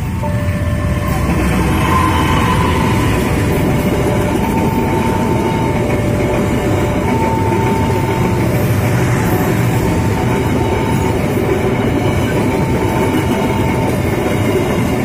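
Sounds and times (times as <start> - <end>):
thin high steady tones: 0.0 - 15.0
train wheels rumbling on rails: 0.0 - 15.0.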